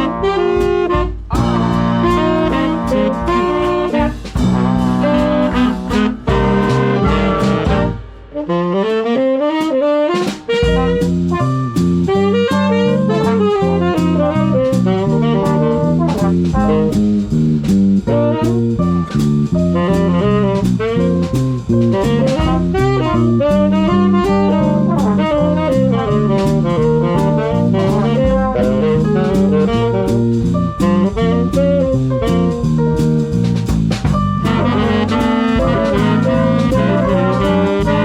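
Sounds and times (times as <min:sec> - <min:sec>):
stepping bass line: 0:00.0 - 0:09.0, 0:10.2 - 0:38.0
drum kit swing beat: 0:00.0 - 0:38.0
saxophones playing melody: 0:00.0 - 0:38.0.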